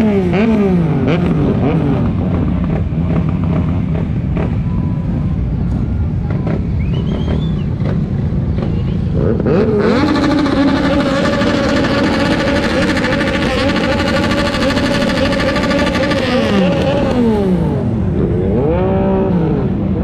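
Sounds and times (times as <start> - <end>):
motorcycle engine revving: 0.0 - 5.4, 6.2 - 20.0.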